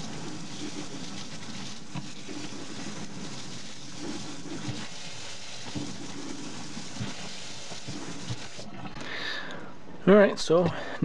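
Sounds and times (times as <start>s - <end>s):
water spraying into metal sink: 0.0s - 9.0s.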